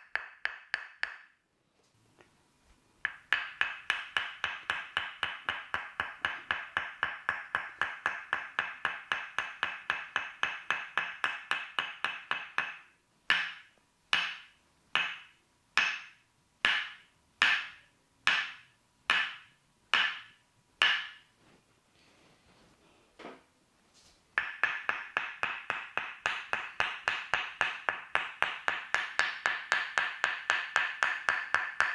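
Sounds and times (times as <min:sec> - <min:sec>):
wooden mallet tapping wooden wedge: 0:00.0 - 0:01.4, 0:03.0 - 0:21.3, 0:24.4 - 0:31.9.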